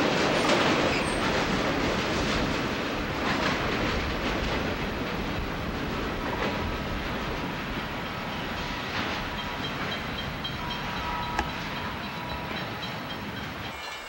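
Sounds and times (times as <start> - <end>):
freight train rumbling and rattling: 0.0 - 14.0.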